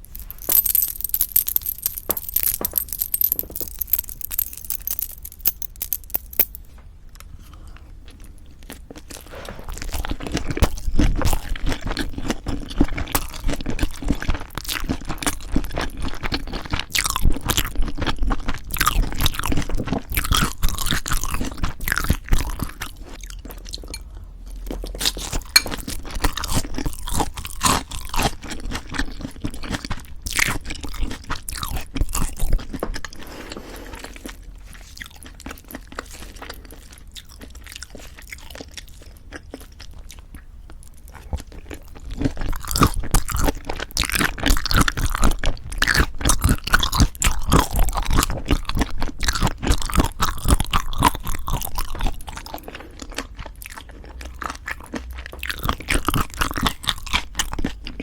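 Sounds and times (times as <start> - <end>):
crisp chewing crunch: 7.2 - 58.0.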